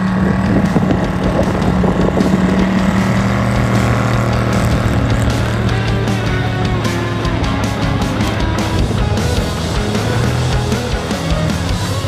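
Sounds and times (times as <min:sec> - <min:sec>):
buggy engine running hard: 0:00.0 - 0:12.0.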